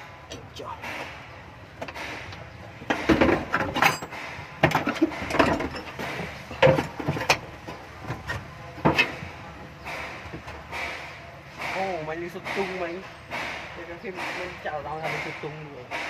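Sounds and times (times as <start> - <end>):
tools knocking and clattering: 1.8 - 16.0.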